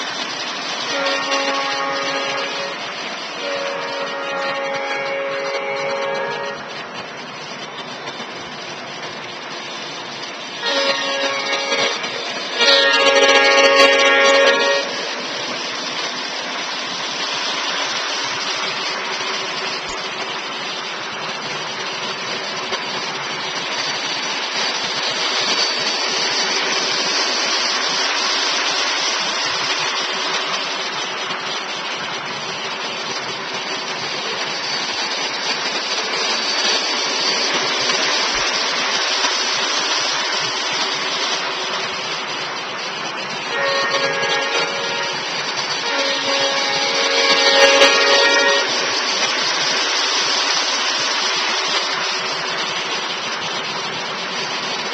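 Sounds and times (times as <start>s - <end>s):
locomotive sound: 0.0s - 54.9s
model train rumbling on track: 0.0s - 54.9s.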